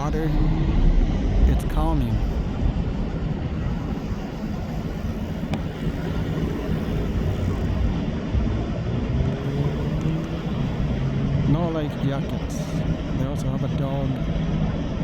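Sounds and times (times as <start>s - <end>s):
low rumble: 0.0s - 15.0s
motor droning: 0.0s - 15.0s.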